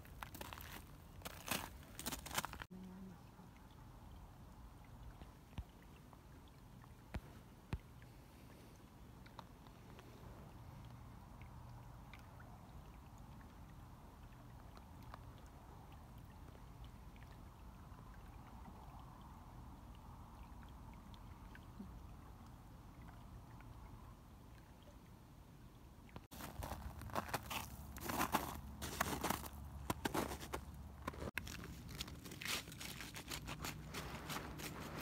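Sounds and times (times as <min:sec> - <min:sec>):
water gurgling: 0:00.0 - 0:35.0.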